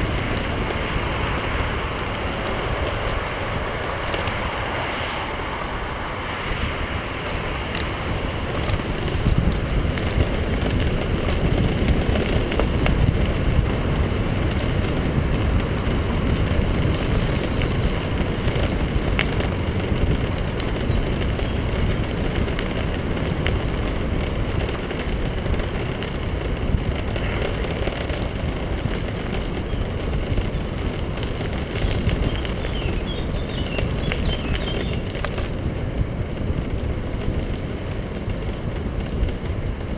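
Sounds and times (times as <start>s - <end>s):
tyres rolling over gravel: 0.0s - 39.9s
wind on microphone: 0.0s - 39.9s.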